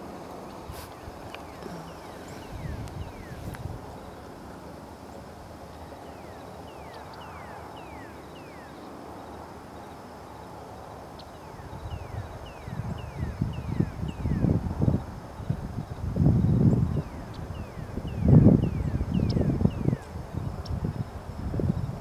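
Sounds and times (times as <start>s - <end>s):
outdoor background hum: 0.0s - 22.0s.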